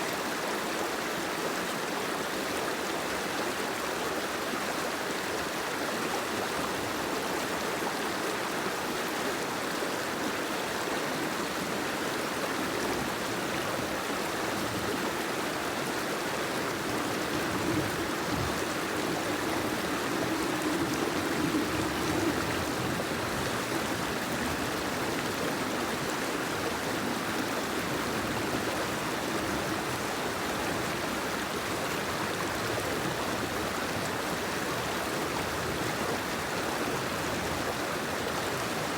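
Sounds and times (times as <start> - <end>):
water rushing: 0.1 - 38.9.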